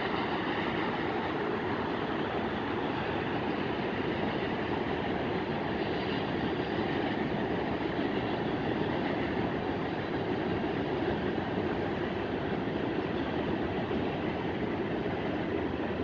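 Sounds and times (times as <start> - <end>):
train wheels rolling on rail: 0.0 - 16.0.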